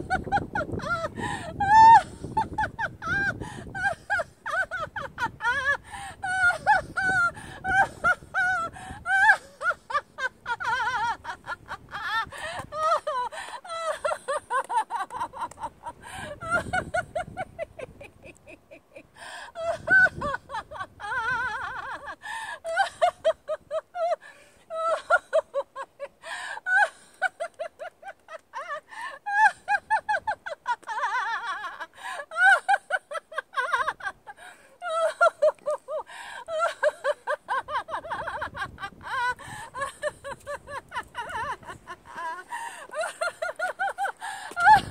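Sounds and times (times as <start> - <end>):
woman laughing: 0.0 - 44.9.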